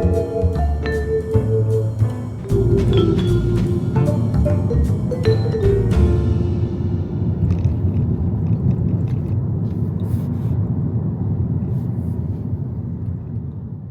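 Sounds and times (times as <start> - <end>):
low steady rumbling: 0.0 - 13.9.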